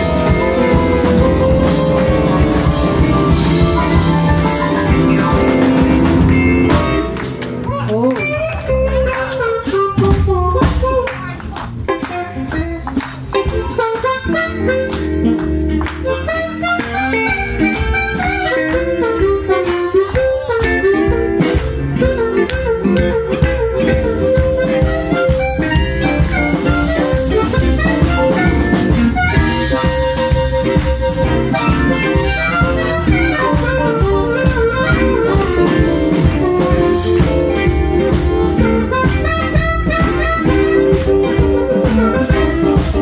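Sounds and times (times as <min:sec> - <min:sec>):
amplified harmonica: 0:00.0 - 0:07.2, 0:08.3 - 0:11.0, 0:11.8 - 0:43.0
live blues band: 0:00.0 - 0:43.0.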